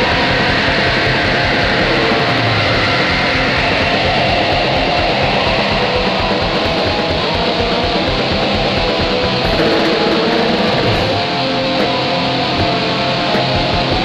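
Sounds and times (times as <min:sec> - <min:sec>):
distorted electric guitar: 0:00.0 - 0:14.0
fast drumming: 0:00.0 - 0:14.0.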